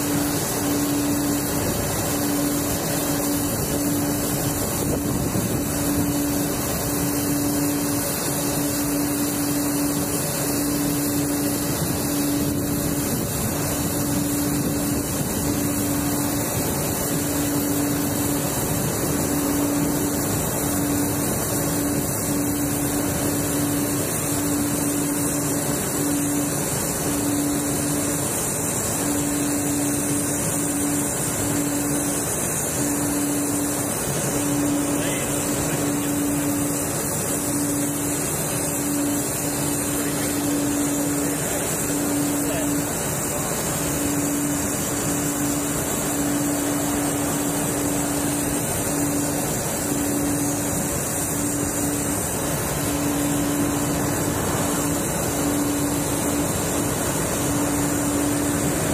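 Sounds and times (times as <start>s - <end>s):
jet engines rushing: 0.0s - 58.9s
low engine hum: 0.0s - 58.9s.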